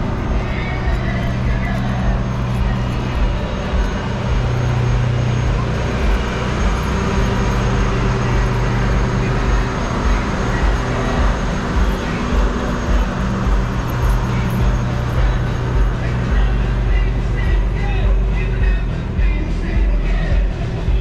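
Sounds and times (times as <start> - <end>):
boxcars rolling past: 0.0 - 20.9
low engine hum: 0.0 - 21.0.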